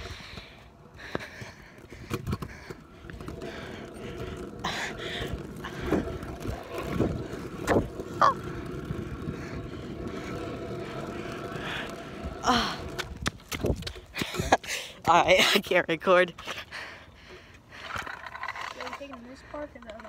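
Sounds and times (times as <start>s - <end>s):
scooter wheels rolling on concrete: 0.0s - 20.0s.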